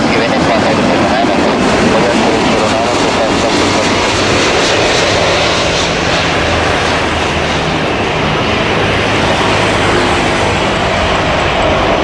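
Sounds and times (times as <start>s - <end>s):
jet engines landing: 0.0s - 12.0s.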